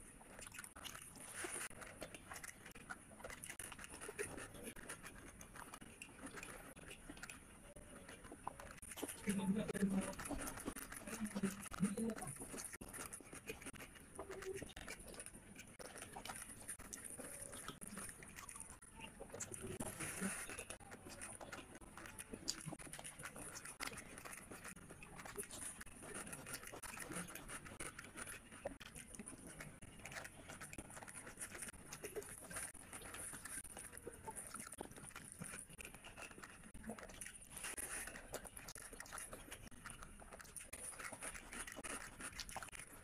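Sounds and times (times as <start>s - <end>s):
fingers squishing rice: 0.0s - 43.0s
person chewing and smacking: 0.0s - 43.0s.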